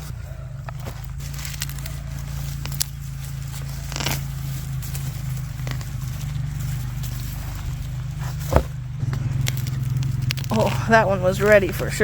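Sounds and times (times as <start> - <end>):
soil and roots crackling: 0.0 - 12.0
steady low hum: 0.0 - 12.0.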